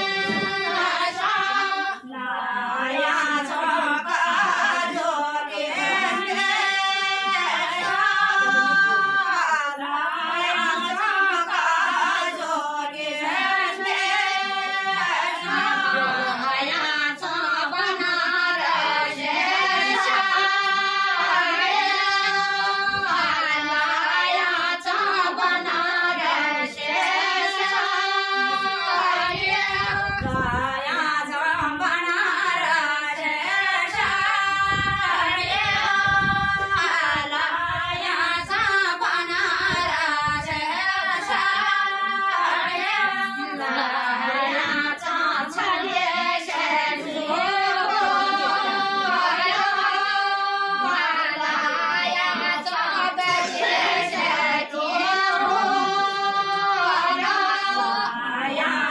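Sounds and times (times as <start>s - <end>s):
women singing unaccompanied: 0.0s - 58.9s.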